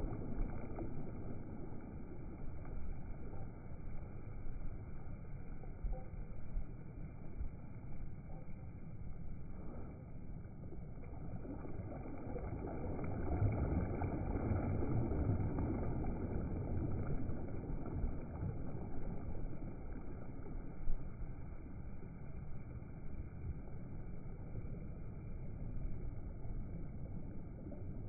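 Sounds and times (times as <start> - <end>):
rushing wind and water: 0.0 - 28.0.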